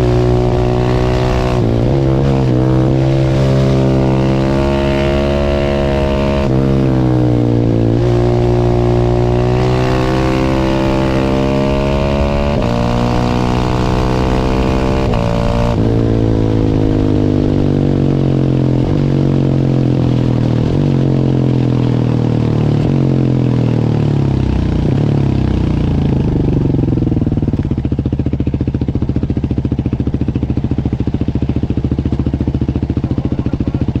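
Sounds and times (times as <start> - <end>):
motorcycle engine revving through shifts: 0.0 - 34.0.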